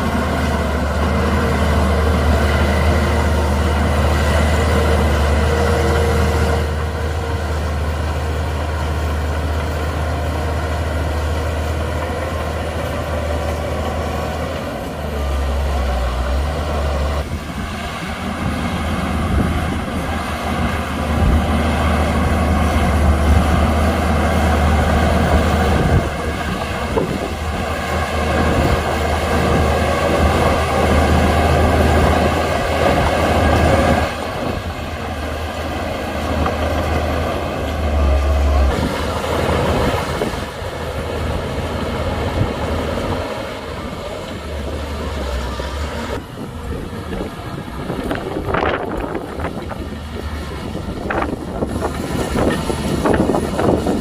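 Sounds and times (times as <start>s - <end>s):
bulldozer diesel engine running: 0.0s - 54.0s
tracks clattering and rumbling: 0.0s - 54.0s.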